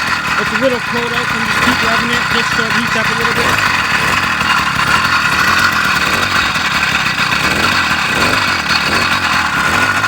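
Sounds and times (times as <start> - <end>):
small two-stroke engine buzzing: 0.0 - 10.0.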